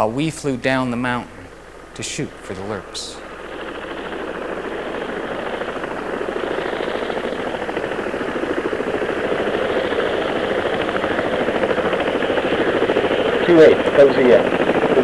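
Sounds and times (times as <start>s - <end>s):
helicopter rotor chop and engine: 0.0s - 15.0s.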